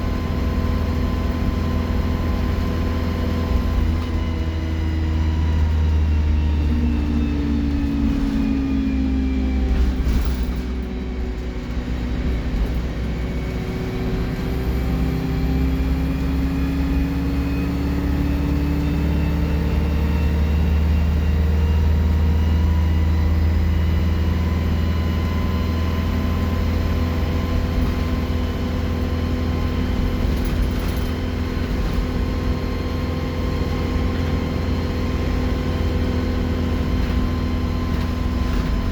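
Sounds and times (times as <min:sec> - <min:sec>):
bus engine with turbo whistle: 0:00.0 - 0:38.9.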